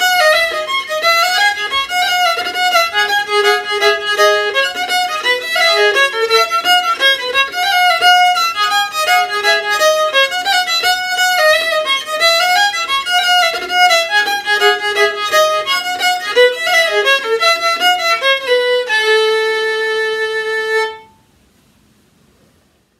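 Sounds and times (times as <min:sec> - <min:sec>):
solo violin fiddle tune: 0:00.0 - 0:21.2.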